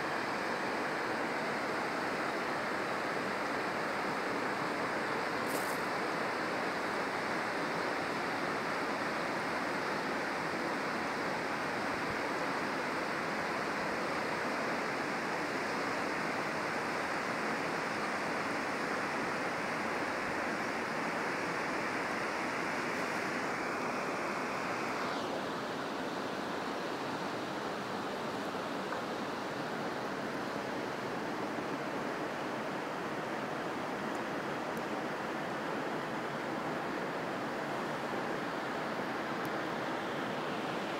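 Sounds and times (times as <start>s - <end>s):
fast river rushing: 0.0s - 40.9s.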